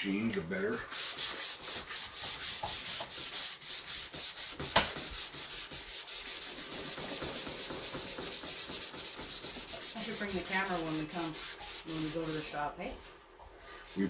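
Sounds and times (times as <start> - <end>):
sandpaper strokes on car body: 1.0 - 12.7.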